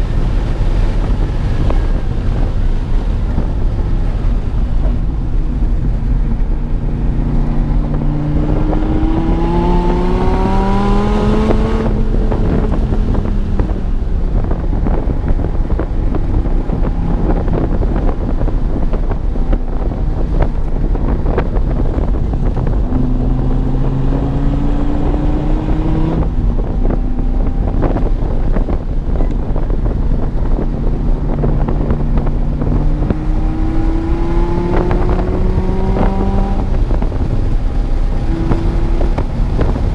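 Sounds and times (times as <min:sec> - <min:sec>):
car engine accelerating hard: 0:00.0 - 0:39.9
wind buffeting the microphone: 0:00.0 - 0:39.9.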